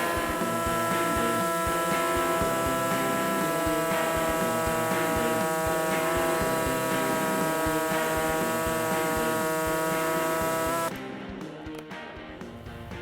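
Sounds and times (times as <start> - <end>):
power cutting tool whining: 0.0 - 10.9.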